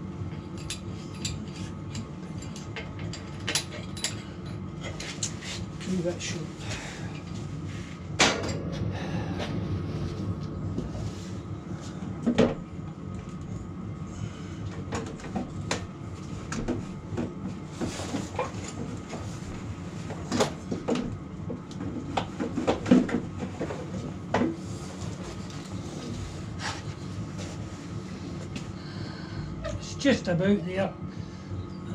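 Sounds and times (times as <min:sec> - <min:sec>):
space heater humming: 0:00.0 - 0:31.9.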